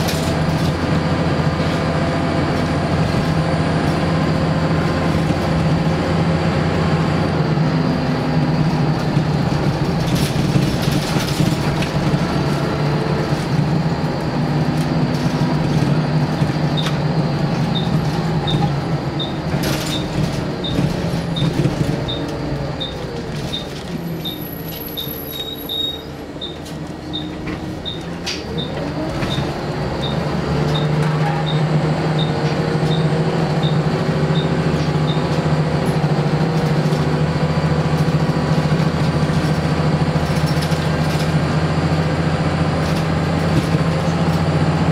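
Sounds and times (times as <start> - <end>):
bus engine under load: 0.0 - 44.9.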